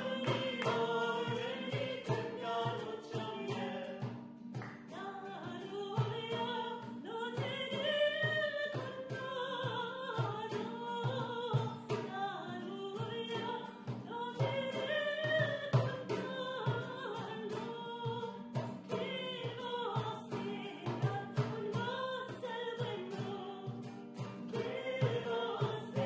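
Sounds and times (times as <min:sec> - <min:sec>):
woman singing: 0:00.0 - 0:04.2, 0:04.8 - 0:26.0
hand drum beat: 0:00.0 - 0:26.0
strummed acoustic guitar: 0:00.0 - 0:26.0.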